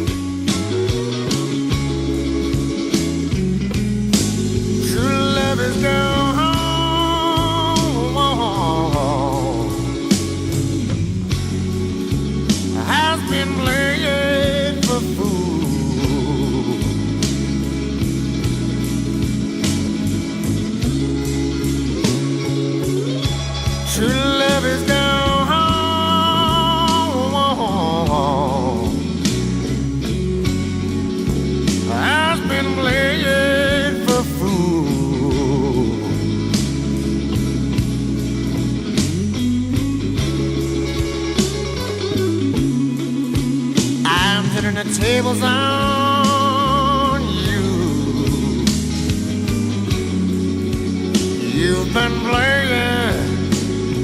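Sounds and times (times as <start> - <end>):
electric guitar with vibrato: 0.0 - 54.0
steady drum beats: 0.0 - 54.0
walking bass: 0.0 - 54.0.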